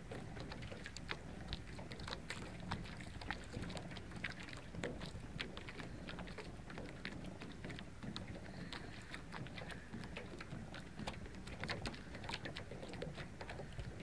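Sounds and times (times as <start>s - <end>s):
small waves lapping and splashing: 0.0s - 14.0s.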